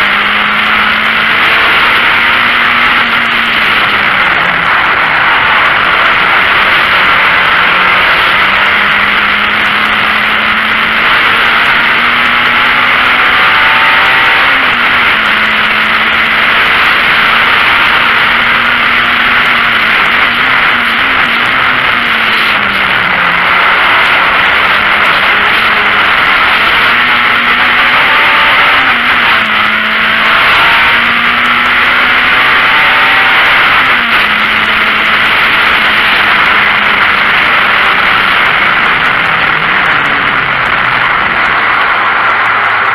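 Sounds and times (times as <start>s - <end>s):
car engine running hard: 0.0s - 42.9s.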